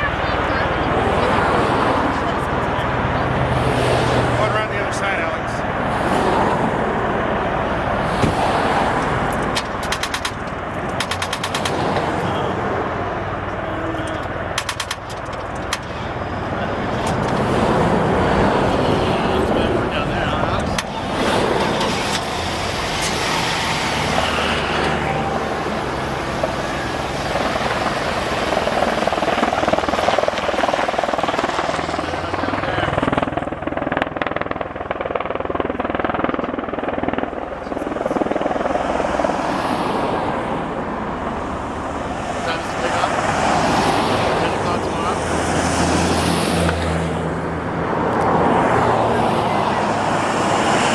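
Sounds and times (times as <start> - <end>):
tiltrotor aircraft roar: 0.0 - 50.9.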